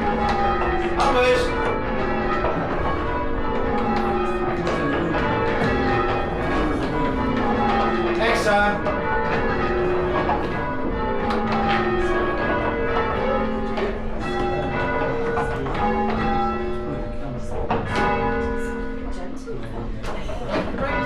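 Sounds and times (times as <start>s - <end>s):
church bells ringing: 0.0s - 21.0s.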